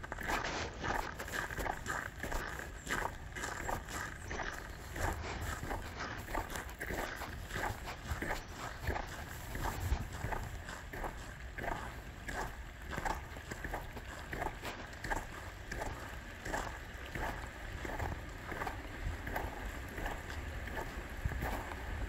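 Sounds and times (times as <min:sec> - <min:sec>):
footsteps crunching on icy snow: 0:00.0 - 0:22.0
steady low rumble: 0:00.0 - 0:22.0.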